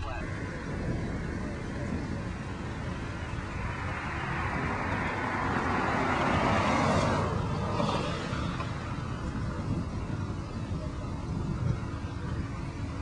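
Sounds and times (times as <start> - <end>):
steady low rumble: 0.0 - 13.0
vehicle passing on road: 0.0 - 13.0.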